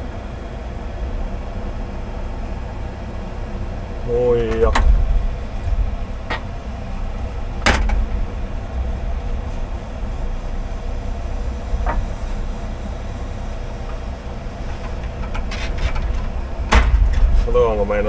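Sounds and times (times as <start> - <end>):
hydraulic and engine rumble: 0.0 - 18.0.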